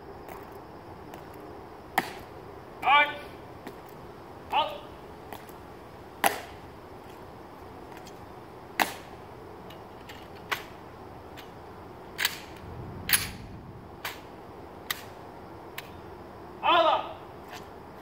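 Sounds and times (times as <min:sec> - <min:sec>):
steady low background noise: 0:00.0 - 0:18.0.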